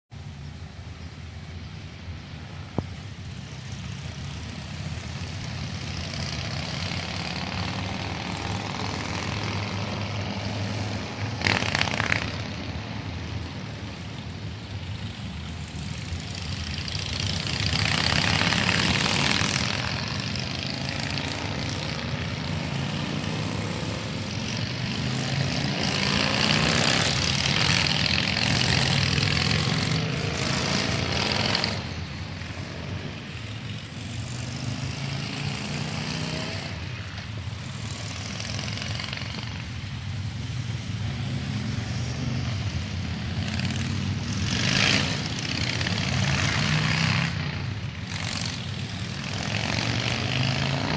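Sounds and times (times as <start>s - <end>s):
motorcycles accelerating: 0.2s - 50.9s.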